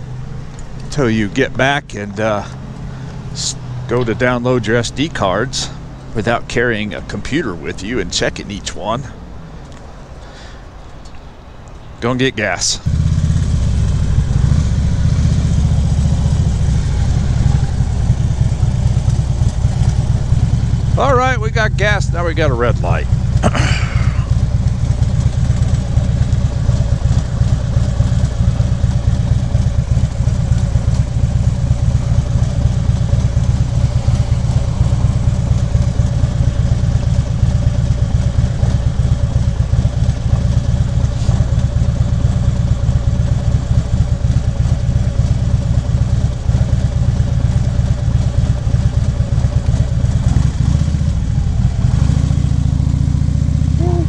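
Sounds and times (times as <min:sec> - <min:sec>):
motorcycle engine idling: 0:00.0 - 0:10.9, 0:11.8 - 0:54.0.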